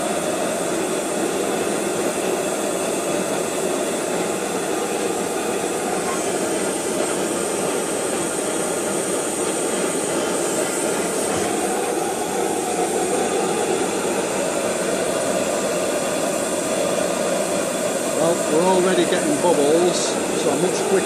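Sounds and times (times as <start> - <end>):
gas stove burning with loud roar: 0.0 - 21.0.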